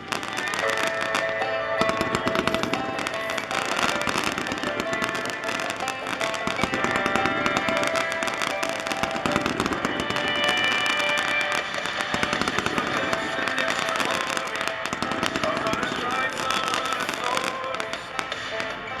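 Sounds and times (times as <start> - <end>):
fireworks crackling and popping: 0.0 - 19.0
music playing: 0.0 - 19.0.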